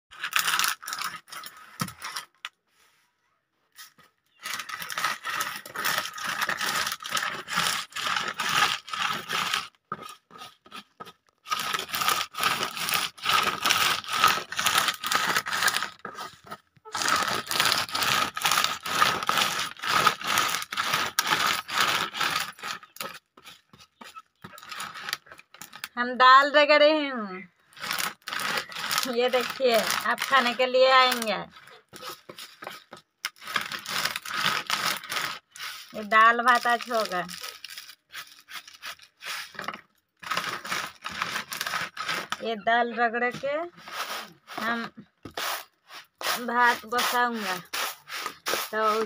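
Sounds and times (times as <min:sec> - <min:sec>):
scratchy scraping and rustling: 0:00.1 - 0:03.0, 0:03.7 - 0:26.0, 0:27.7 - 0:42.6, 0:43.2 - 0:49.0.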